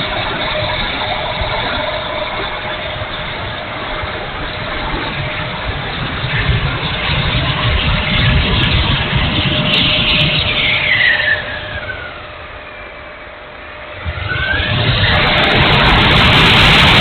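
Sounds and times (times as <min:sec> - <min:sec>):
model jet fan whine passing: 0:00.0 - 0:17.0.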